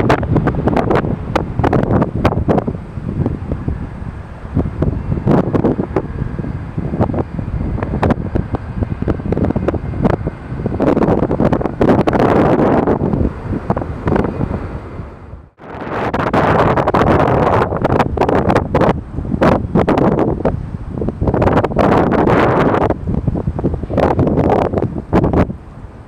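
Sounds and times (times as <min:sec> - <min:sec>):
gusty wind buffeting microphone: 0:00.0 - 0:26.0
jet engines rumbling: 0:00.0 - 0:26.0.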